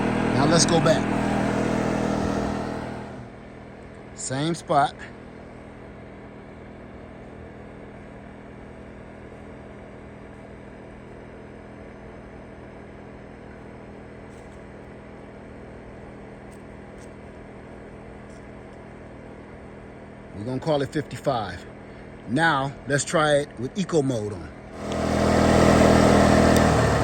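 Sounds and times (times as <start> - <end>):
generator engine hum: 0.0 - 27.0.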